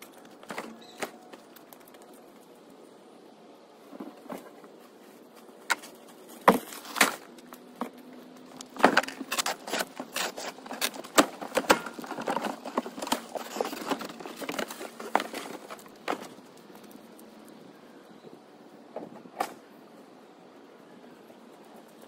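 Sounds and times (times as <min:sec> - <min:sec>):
crackly rustling: 0:00.0 - 0:22.0.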